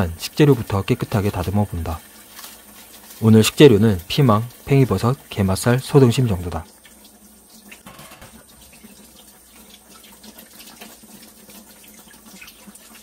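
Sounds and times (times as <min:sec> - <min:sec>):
faucet running: 0:00.0 - 0:13.0.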